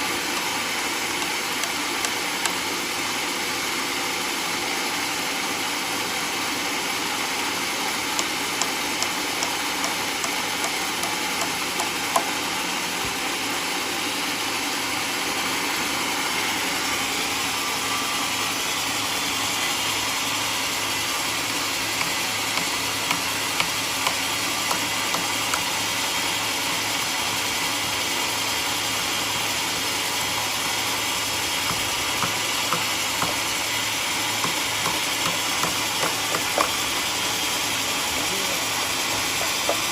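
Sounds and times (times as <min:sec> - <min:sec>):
sawmill engine hum: 0:00.0 - 0:39.9.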